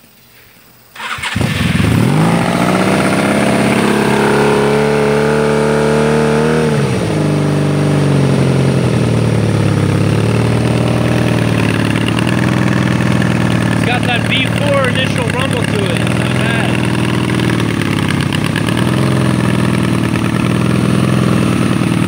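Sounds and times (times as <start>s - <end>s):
motorcycle engine cranking and idling: 0.9s - 22.0s.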